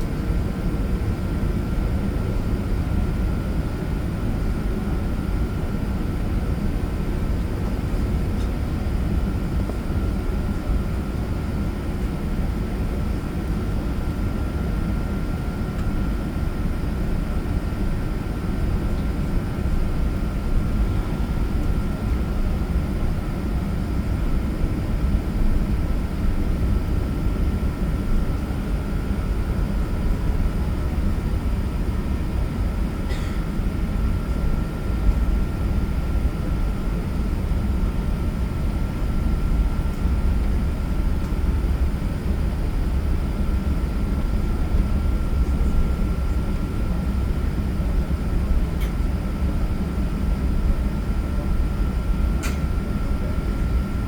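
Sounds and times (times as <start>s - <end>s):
airliner low rumble: 0.0s - 54.0s.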